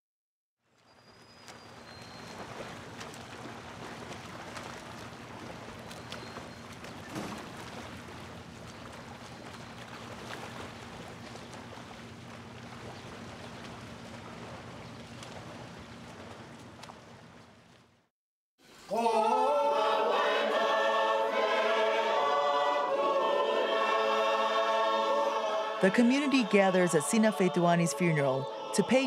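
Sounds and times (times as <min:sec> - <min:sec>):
outdoor noise wash: 0:00.7 - 0:29.0
low steady hum: 0:01.7 - 0:18.0, 0:19.4 - 0:29.0.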